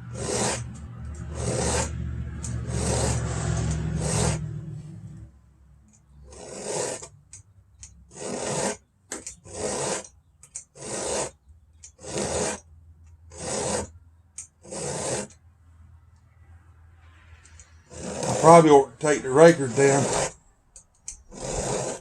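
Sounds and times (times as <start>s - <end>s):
file rasping on chainsaw chain: 0.0s - 4.6s, 6.1s - 12.7s, 13.3s - 15.4s, 17.5s - 22.0s.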